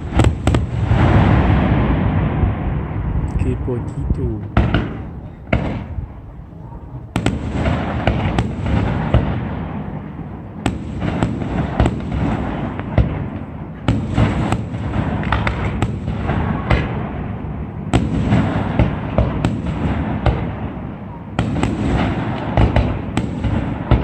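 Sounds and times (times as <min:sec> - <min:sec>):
fireworks bangs: 0:00.0 - 0:06.3, 0:07.0 - 0:24.0
fireworks crackle and rumble: 0:00.0 - 0:24.0.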